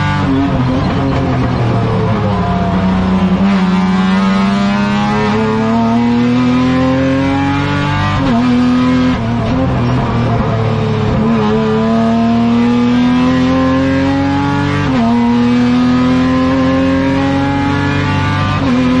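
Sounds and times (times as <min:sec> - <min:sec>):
race car engine at full throttle: 0:00.0 - 0:19.0.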